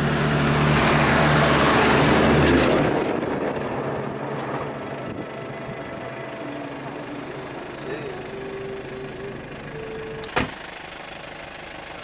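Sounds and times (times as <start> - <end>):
car road noise: 0.0 - 12.0
truck passing by: 0.0 - 12.0.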